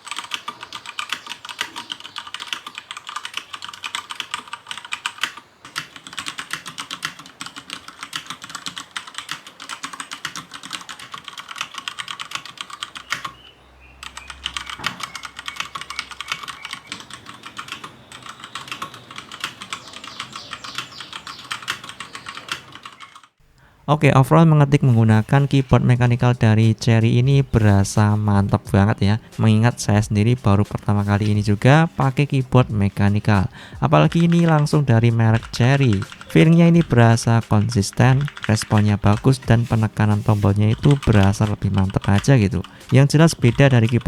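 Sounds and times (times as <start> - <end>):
mechanical keyboard typing: 0.0 - 13.4, 14.0 - 23.4, 25.2 - 44.0.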